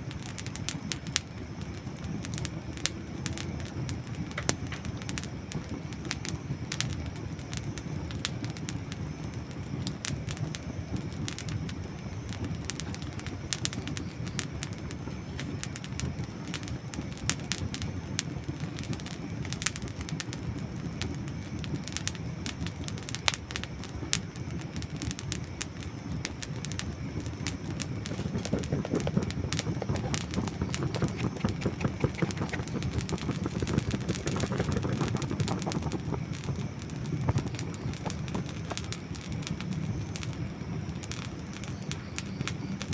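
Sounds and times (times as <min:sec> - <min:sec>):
campfire crackles and pops: 0:00.0 - 0:42.9
low rumble of flames: 0:00.0 - 0:42.9.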